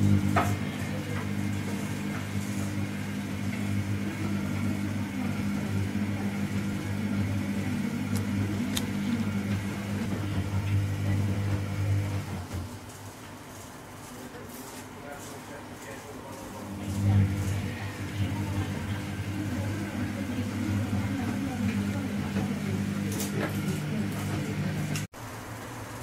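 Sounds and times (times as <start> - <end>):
electric motor humming: 0.0 - 12.6, 16.6 - 25.1.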